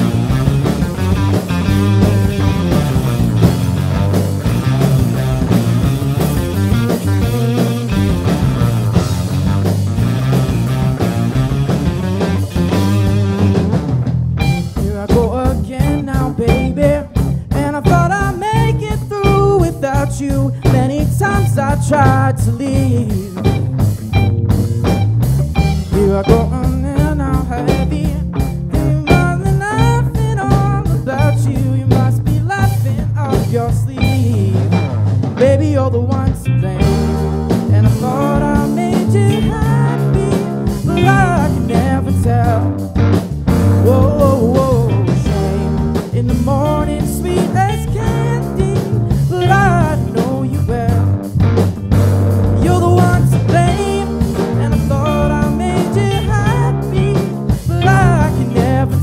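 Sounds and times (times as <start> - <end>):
lead guitar bending notes: 0.0 - 35.6, 36.4 - 59.0
rock band playing: 0.0 - 59.0.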